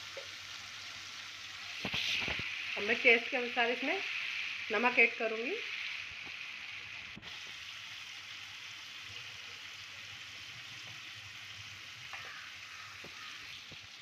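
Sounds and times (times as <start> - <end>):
masala bubbling and sizzling: 0.0 - 14.0.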